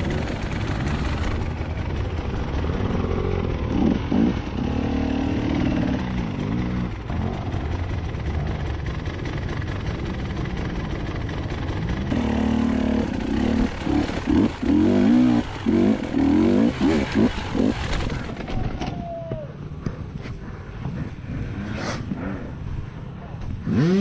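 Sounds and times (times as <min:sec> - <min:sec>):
dirt bike engine idling and revving: 0:00.0 - 0:24.0.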